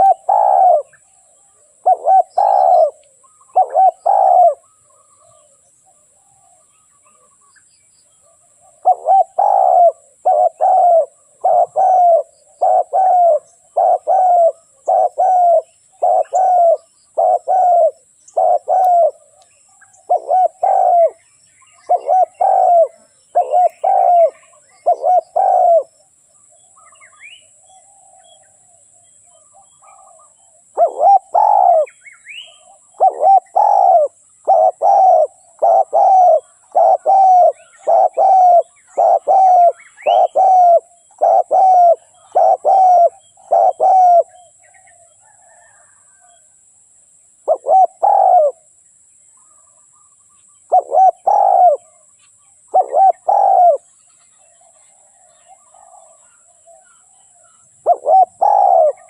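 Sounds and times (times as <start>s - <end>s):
dove cooing: 0.0s - 7.4s, 8.2s - 26.0s, 26.8s - 46.4s, 47.4s - 48.7s, 50.6s - 59.0s.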